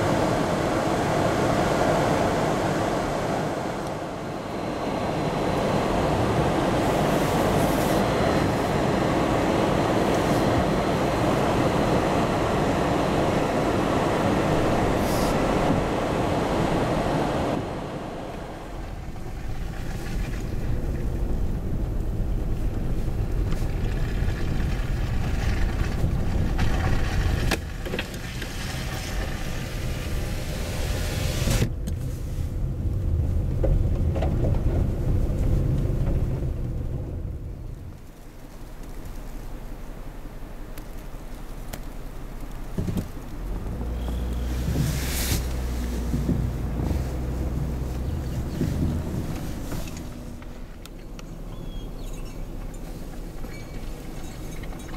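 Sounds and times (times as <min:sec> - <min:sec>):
engine and tyres rumbling: 0:00.0 - 0:54.9.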